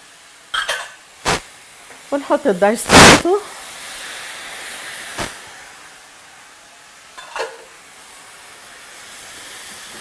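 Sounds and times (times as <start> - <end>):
tomatoes sizzling in hot oil: 0.0 - 10.0.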